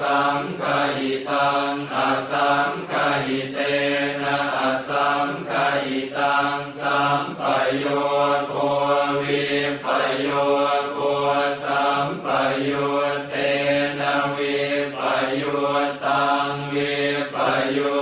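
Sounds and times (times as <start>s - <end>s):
monks chanting: 0.0s - 18.0s.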